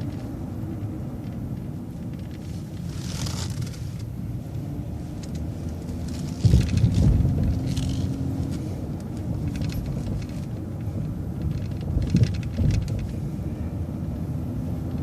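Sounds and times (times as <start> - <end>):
bus body rattles and clicks: 0.0 - 15.0
bus engine and road rumble: 0.0 - 15.0.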